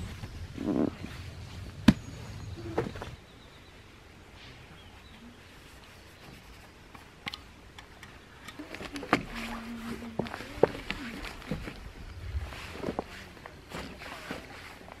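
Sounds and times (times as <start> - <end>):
forest ambience: 0.0 - 15.0.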